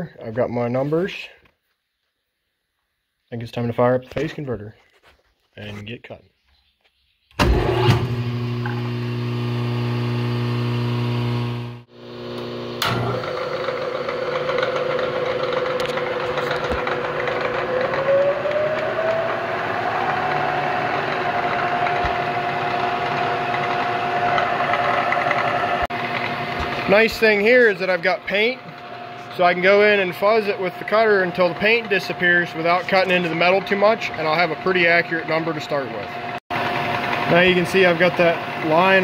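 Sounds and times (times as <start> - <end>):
milling machine motor whining: 7.4 - 39.0
phase converter humming: 7.4 - 39.0.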